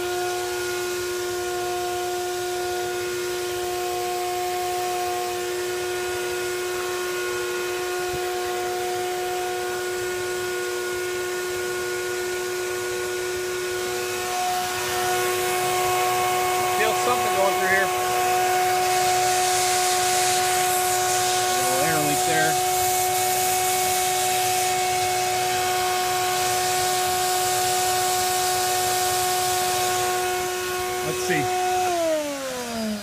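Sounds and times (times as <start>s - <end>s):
shop vacuum motor whining: 0.0s - 33.0s.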